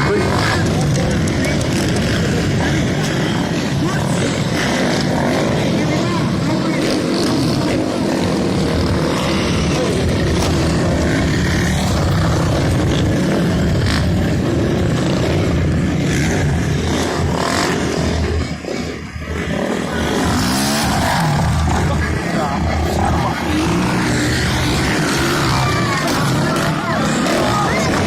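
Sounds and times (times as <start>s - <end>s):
dirt bike engines running: 0.0s - 28.0s.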